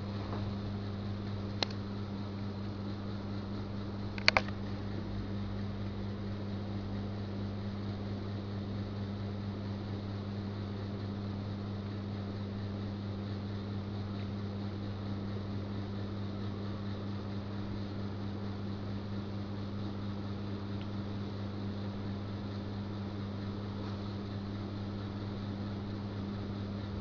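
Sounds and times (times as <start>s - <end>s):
low hum with faint hiss: 0.0s - 27.0s.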